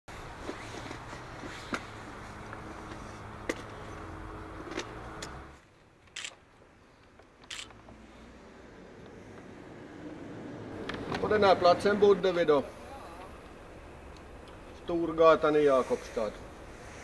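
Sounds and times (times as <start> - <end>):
low traffic hum: 0.1 - 17.0.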